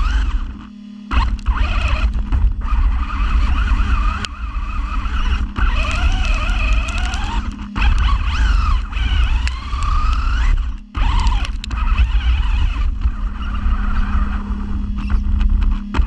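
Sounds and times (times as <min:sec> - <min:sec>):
toy car motor whining: 0:00.0 - 0:15.2
chassis rumbling and rattling: 0:00.0 - 0:16.0.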